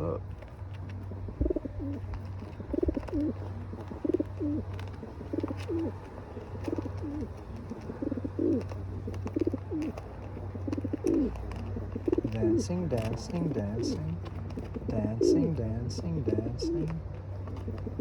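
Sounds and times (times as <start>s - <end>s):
pigeon cooing: 0.0s - 18.0s.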